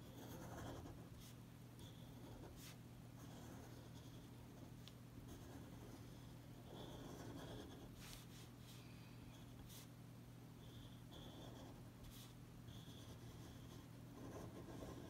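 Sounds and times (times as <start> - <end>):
pen scratching on paper: 0.0 - 8.5, 10.6 - 15.0.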